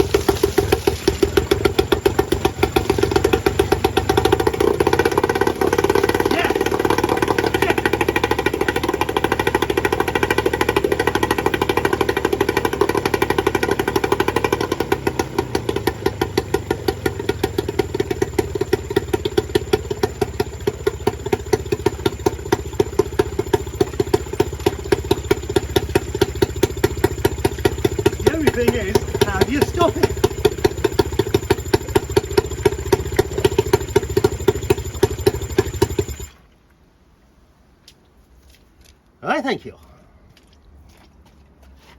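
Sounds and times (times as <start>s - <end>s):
outboard motor running: 0.0s - 36.5s.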